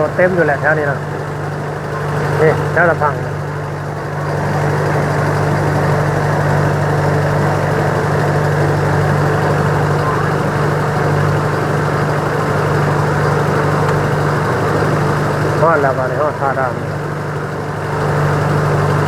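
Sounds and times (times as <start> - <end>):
ferry boat engine running: 0.0 - 19.0.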